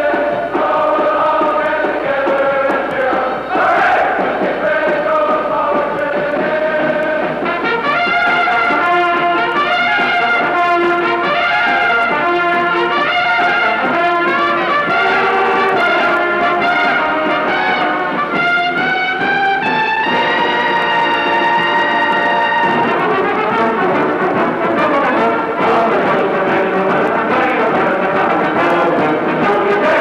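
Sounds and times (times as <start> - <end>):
brass ensemble playing: 3.3 - 30.0.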